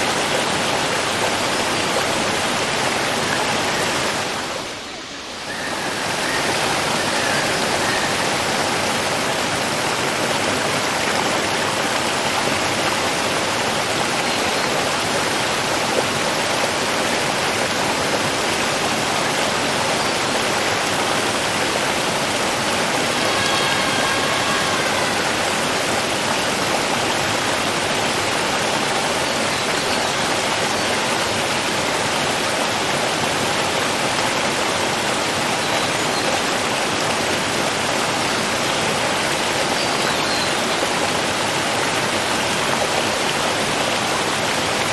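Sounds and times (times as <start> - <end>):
running water rushing: 0.0 - 44.9.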